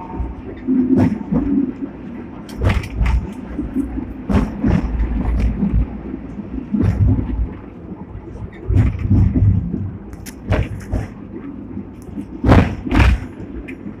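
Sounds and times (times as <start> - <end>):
tram wheels rumbling: 0.0 - 14.0.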